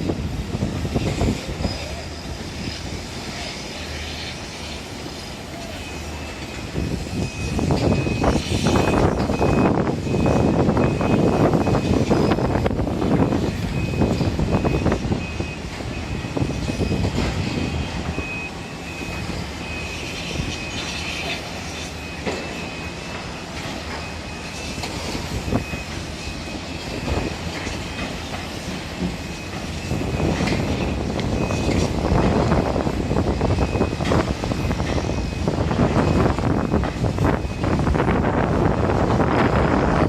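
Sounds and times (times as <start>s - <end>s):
heavy machinery rumble: 0.0s - 40.0s
traffic: 0.0s - 40.0s
high warning beep: 1.0s - 40.0s.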